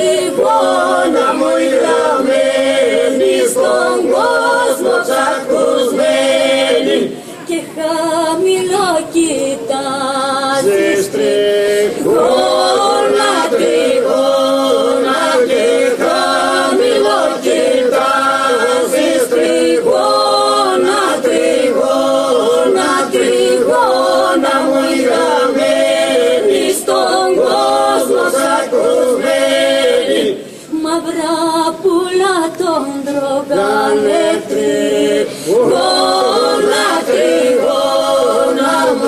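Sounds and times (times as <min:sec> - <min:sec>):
group singing a cappella: 0:00.0 - 0:39.0
ornamented sung melody: 0:00.0 - 0:39.0.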